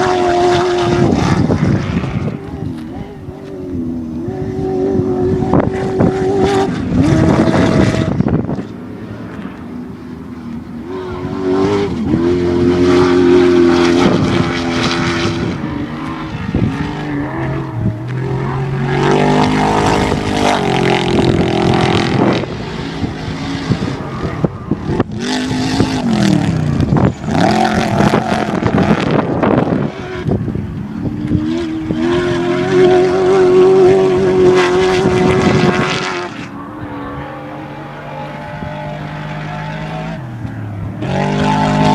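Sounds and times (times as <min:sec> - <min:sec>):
race vehicle engines revving: 0:00.0 - 0:41.9.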